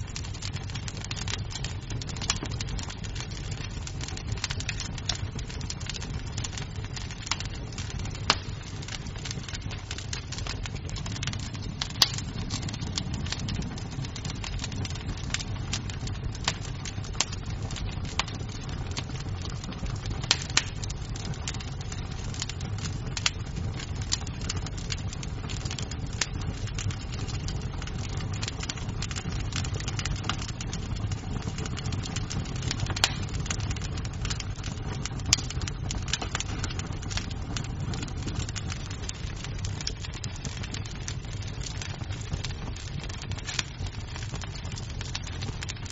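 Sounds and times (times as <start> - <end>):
crackles and pops of burning wood: 0.0 - 45.9
wood fire roaring: 0.0 - 45.9.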